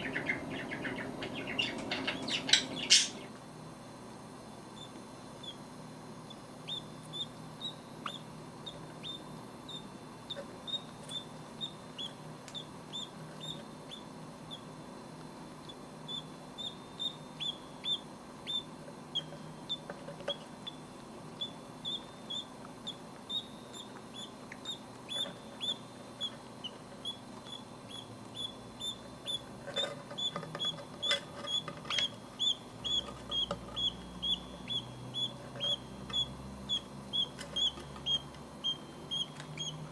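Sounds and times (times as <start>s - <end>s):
bird chicks peeping: 0.0s - 3.3s, 4.8s - 5.6s, 6.3s - 14.7s, 15.7s - 39.9s.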